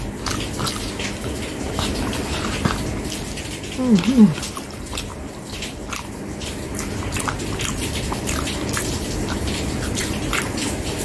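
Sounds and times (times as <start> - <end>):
person chewing with wet smacks: 0.0 - 11.0.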